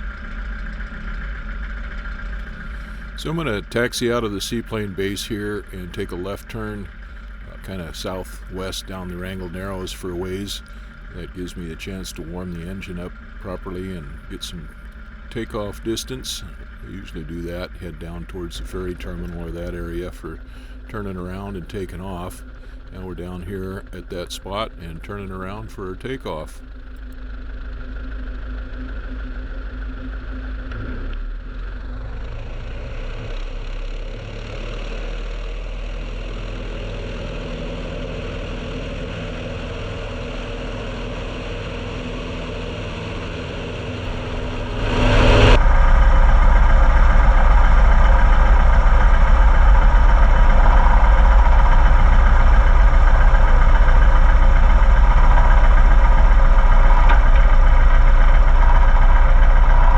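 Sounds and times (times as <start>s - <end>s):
plane engine and propeller: 0.0s - 30.7s, 31.4s - 59.9s.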